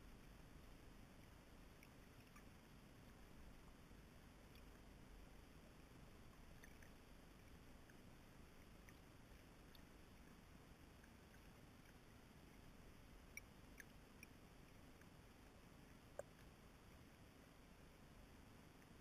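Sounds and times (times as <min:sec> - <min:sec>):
faint ticks: 0:00.0 - 0:19.0
underwater river murmur: 0:00.0 - 0:19.0.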